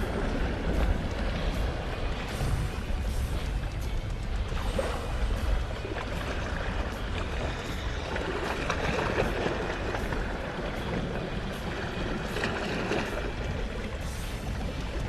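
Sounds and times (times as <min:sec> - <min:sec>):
sea water rushing: 0:00.0 - 0:15.0.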